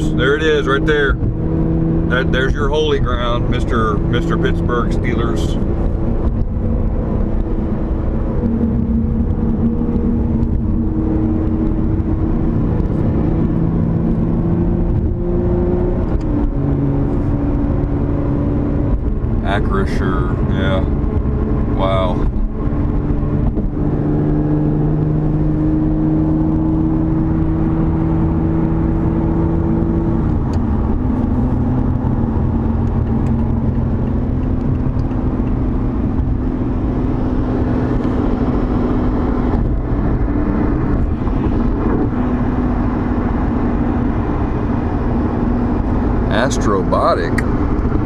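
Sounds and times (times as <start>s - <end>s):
car engine droning: 0.0s - 48.0s
road noise: 0.0s - 48.0s.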